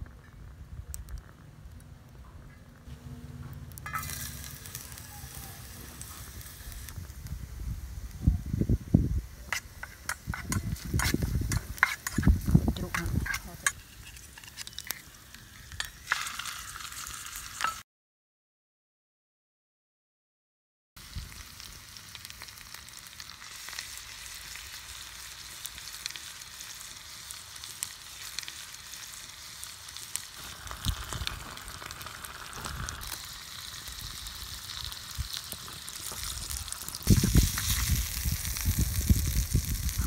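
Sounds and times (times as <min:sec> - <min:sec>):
food sizzling in pan: 0:03.6 - 0:17.8, 0:21.0 - 0:40.0.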